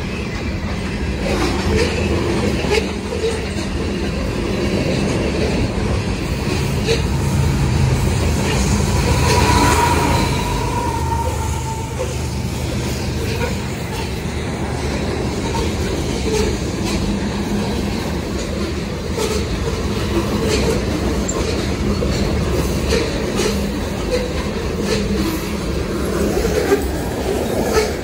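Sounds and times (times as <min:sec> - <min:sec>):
steel wheels rumbling on rail: 0:00.0 - 0:28.0
wheels clicking over rail joints: 0:00.0 - 0:28.0.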